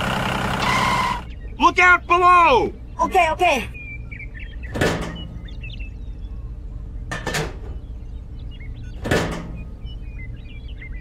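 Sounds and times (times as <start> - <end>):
low steady hum: 0.8 - 11.0.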